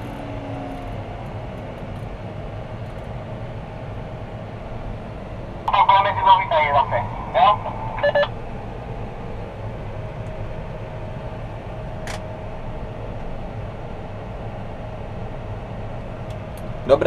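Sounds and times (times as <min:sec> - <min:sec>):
tractor diesel engine drone: 0:00.0 - 0:17.0
faint steady whine: 0:02.9 - 0:17.0.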